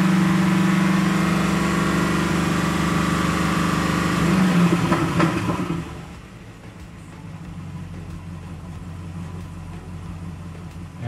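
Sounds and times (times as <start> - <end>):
car exhaust revving: 0.0 - 11.0.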